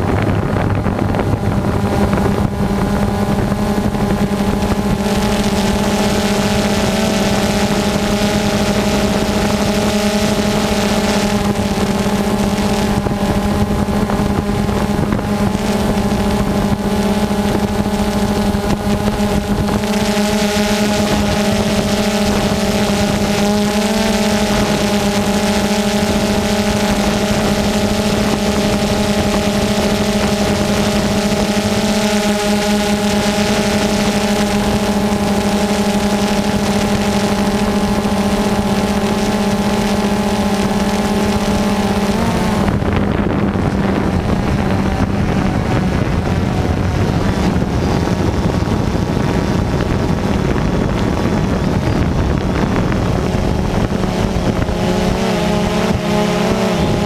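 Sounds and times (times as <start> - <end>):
drone motors humming: 0.0 - 57.0
wind noise on microphone: 0.0 - 57.0.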